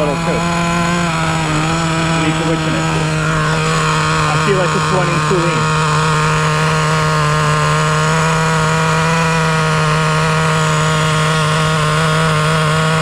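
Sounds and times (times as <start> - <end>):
small nitro engine idling: 0.0 - 13.0.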